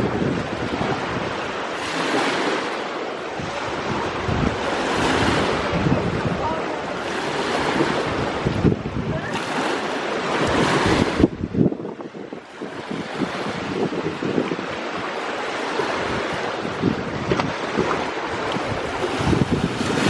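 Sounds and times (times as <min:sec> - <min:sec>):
sea waves breaking on shore: 0:00.0 - 0:20.0
wind buffeting microphone: 0:00.0 - 0:20.0.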